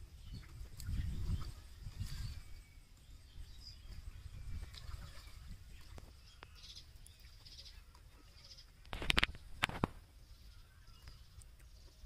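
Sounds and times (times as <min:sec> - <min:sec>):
bird chirps: 0:00.0 - 0:09.6, 0:10.2 - 0:12.0.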